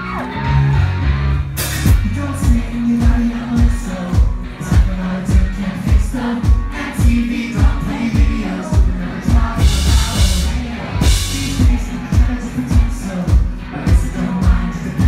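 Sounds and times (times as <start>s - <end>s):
live rock band playing: 0.0s - 15.0s
person singing: 1.9s - 15.0s.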